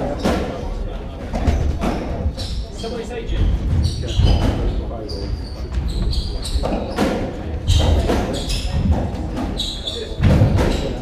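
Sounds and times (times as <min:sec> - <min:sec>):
shoes squeaking on wooden floor: 0:01.3 - 0:11.0.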